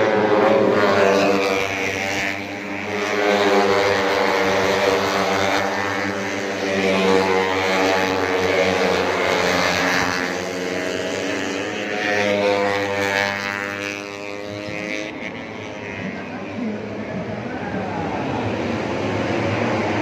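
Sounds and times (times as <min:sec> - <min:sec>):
racing motorcycle engines droning: 0:00.0 - 0:20.0.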